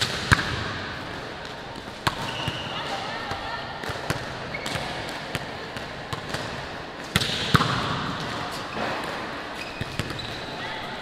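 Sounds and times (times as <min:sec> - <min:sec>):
volleyballs struck and bouncing: 0:00.0 - 0:10.5.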